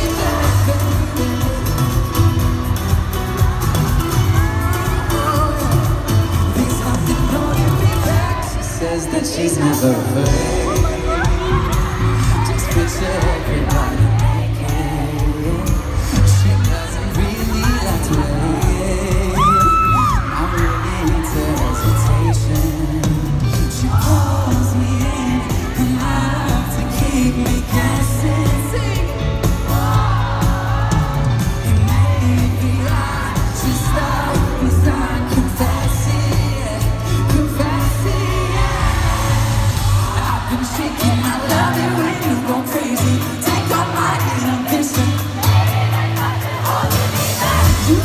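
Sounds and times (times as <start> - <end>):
live pop band with singing: 0.0 - 48.0.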